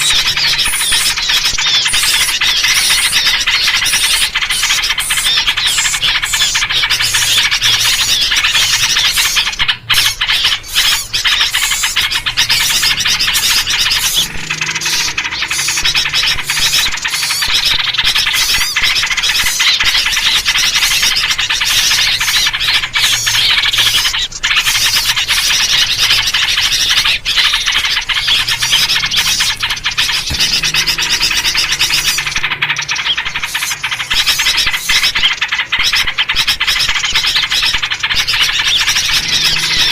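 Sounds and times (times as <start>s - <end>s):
bulbul calls: 0.0s - 39.9s
flock of small birds chattering: 0.0s - 39.9s.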